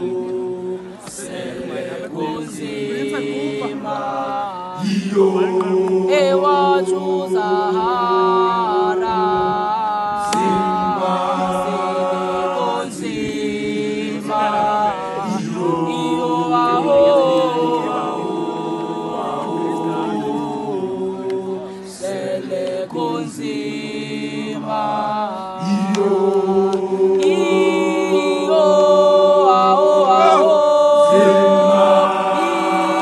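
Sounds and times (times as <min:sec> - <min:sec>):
boys singing unaccompanied chant: 0:00.0 - 0:33.0.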